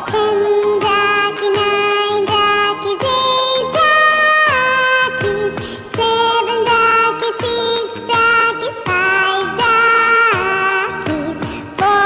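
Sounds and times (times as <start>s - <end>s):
children's song melody: 0.0s - 12.0s.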